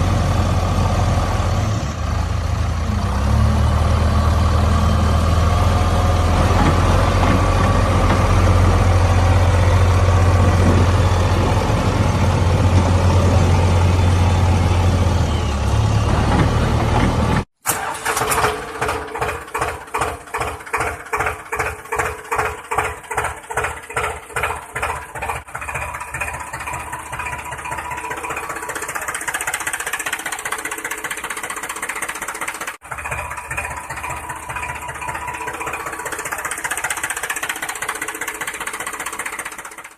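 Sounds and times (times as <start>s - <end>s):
engine deep hum: 0.0s - 17.5s, 20.8s - 39.5s
pulsing engine: 0.0s - 39.9s.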